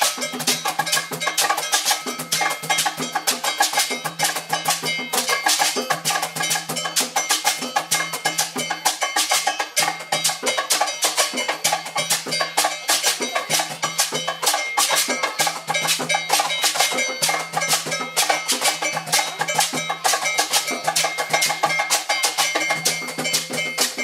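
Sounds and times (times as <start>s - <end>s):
metallic percussion music: 0.0s - 24.0s.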